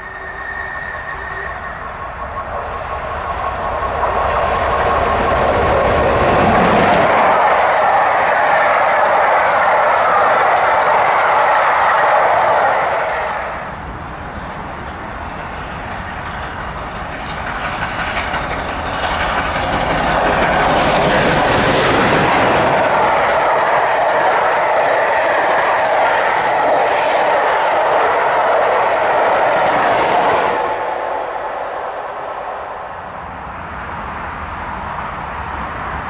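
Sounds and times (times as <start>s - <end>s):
clickety-clack on rails: 0.0s - 36.0s
steam locomotive rushing past: 0.0s - 36.0s
train coaches rolling by: 0.0s - 36.0s.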